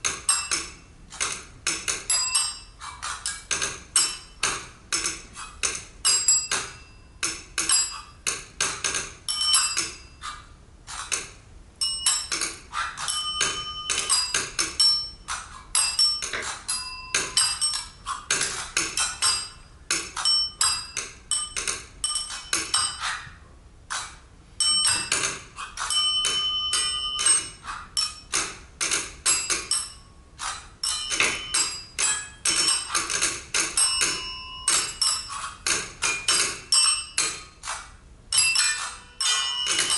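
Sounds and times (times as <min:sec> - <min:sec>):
taps and clicks on small objects: 0:00.0 - 0:10.0, 0:10.9 - 0:23.2, 0:23.9 - 0:39.9.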